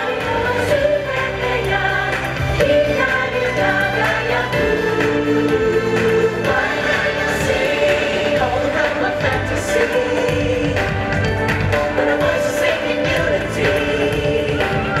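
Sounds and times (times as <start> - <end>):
choir singing held chords: 0.0 - 15.0
steady bass: 0.0 - 15.0.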